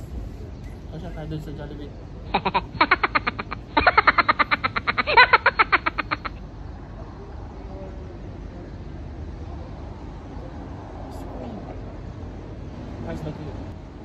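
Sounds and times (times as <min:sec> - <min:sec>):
faint background noise: 0:00.0 - 0:14.0.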